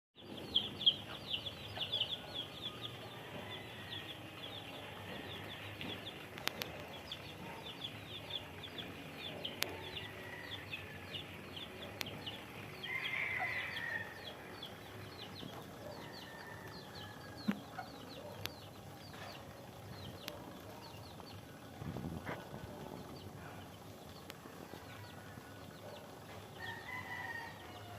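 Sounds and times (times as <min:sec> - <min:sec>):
birds chirping: 0:00.2 - 0:27.9.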